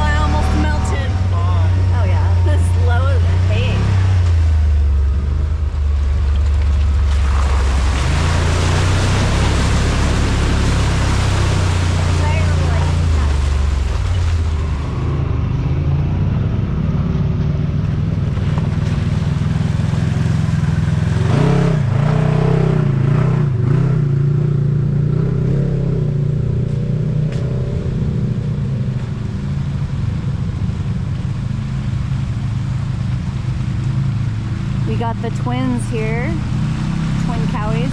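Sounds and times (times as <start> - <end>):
off-road vehicle engine: 0.0 - 37.9.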